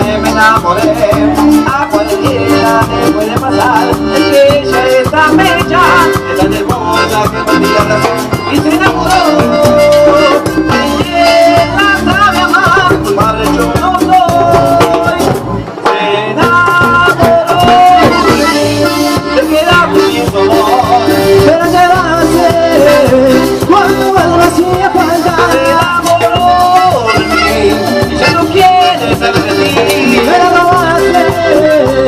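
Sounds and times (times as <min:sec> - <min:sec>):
live band playing cumbia: 0:00.0 - 0:32.0.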